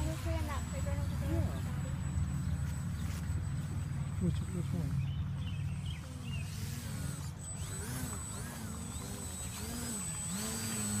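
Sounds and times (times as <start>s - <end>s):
model plane motor whining: 0.0s - 5.1s, 5.7s - 11.0s.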